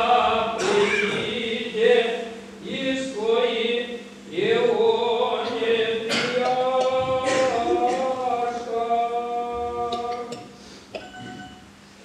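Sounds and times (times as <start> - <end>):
male choir singing a cappella: 0.0 - 10.4.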